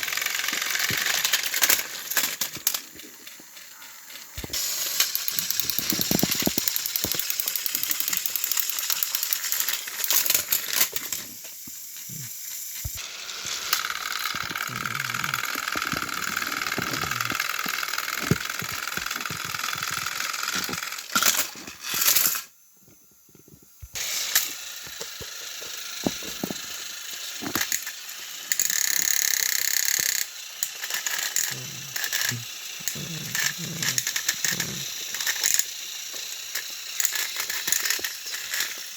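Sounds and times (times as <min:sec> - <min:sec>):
toy train cars rattling: 0:00.0 - 0:22.6, 0:23.8 - 0:38.9
toy train motors whirring: 0:00.0 - 0:38.9.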